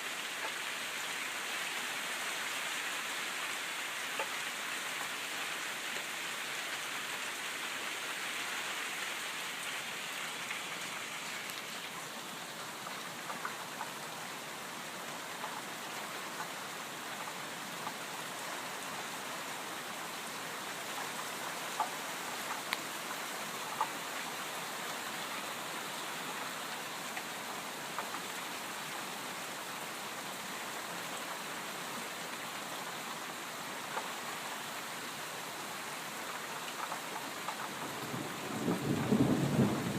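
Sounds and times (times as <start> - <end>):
light rain: 0.0 - 39.9.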